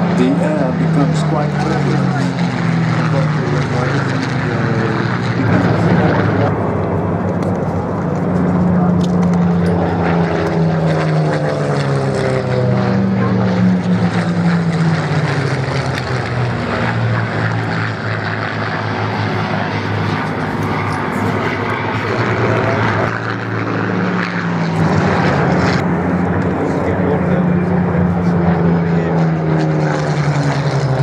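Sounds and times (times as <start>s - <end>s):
propeller aircraft flying past: 0.0s - 31.0s.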